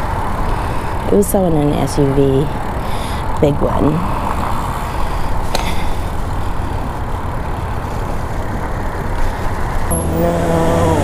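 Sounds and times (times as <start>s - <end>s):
bicycle tyre road noise: 0.0s - 11.0s.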